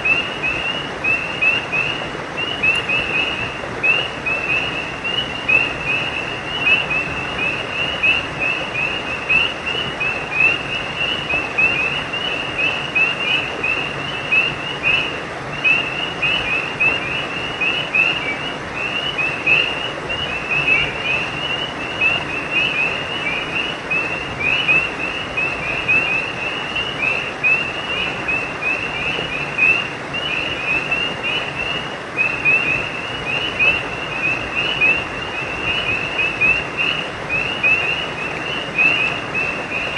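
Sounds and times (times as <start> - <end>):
frogs chirping: 0.0 - 39.9
steady background hiss: 0.0 - 39.9.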